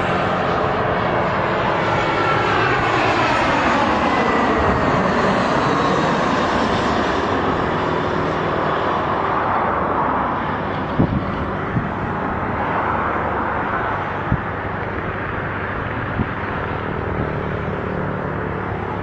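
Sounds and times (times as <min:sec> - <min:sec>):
aeroplane engine roar overhead: 0:00.0 - 0:19.0.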